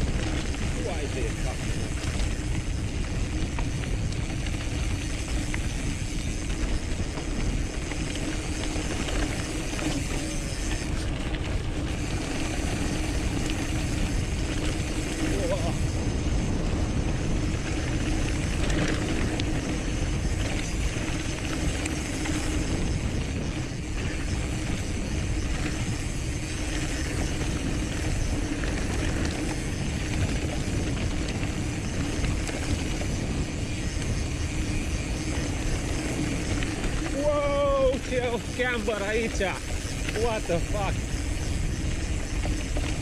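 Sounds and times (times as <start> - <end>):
bike mechanical rattle: 0.0 - 43.0
bike tyres rumbling on dirt: 0.0 - 43.0.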